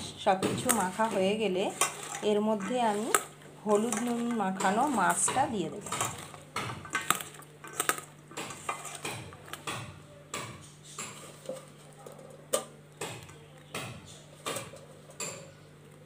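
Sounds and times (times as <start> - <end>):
wet squishes of hand mixing: 0.0 - 16.0.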